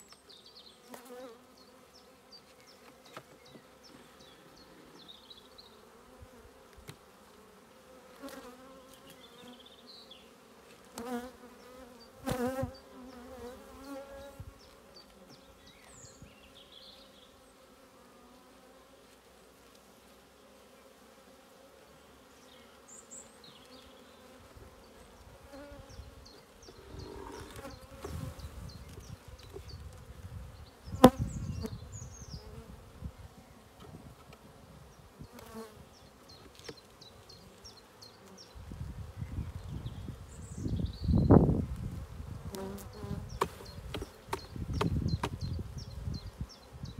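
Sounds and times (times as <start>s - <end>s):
bee colony humming: 0.0s - 38.6s, 39.8s - 46.9s
bees buzzing close past: 0.4s - 46.9s.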